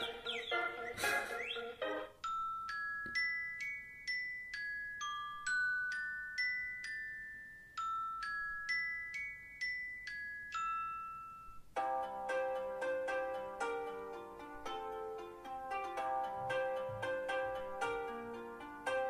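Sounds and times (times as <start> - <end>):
bell-like ringtone melody: 0.0 - 19.0.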